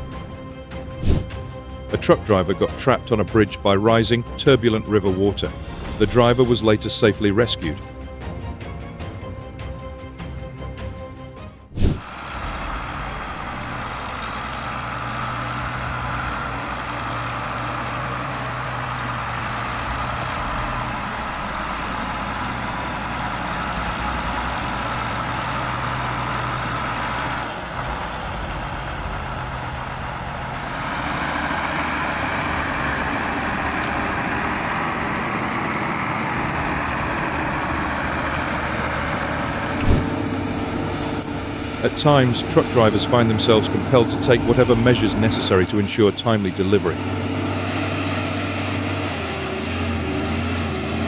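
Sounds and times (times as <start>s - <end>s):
tractor engine running: 0.0s - 9.6s, 11.8s - 51.0s.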